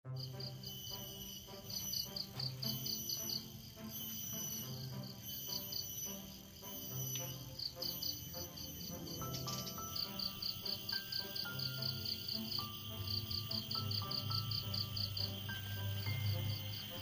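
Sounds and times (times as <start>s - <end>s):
insects chirping: 0.1s - 17.0s
soft background music: 0.1s - 17.0s.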